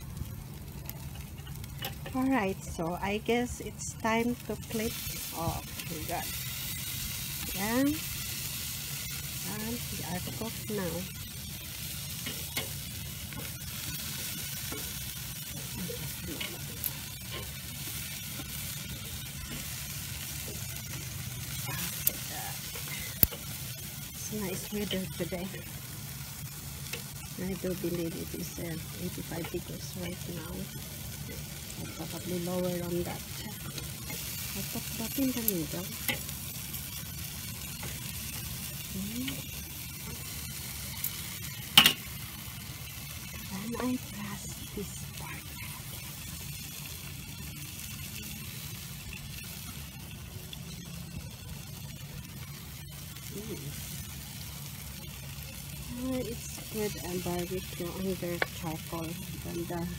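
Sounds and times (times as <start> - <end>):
meat sizzling on a grill: 0.0 - 59.9
small crackles: 0.0 - 59.9.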